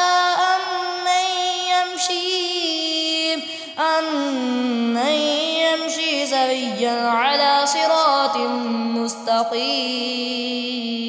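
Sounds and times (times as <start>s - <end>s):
person chanting melodically: 0.0s - 11.0s.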